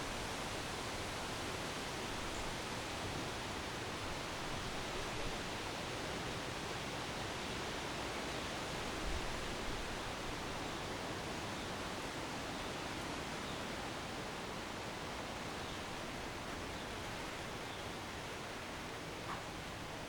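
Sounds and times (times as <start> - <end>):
wind through trees: 0.0 - 20.0.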